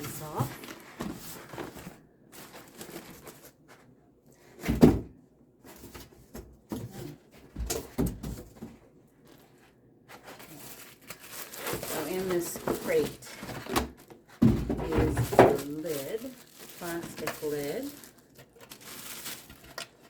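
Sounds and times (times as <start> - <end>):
cardboard rustling and scraping: 0.0 - 4.8, 5.6 - 20.0.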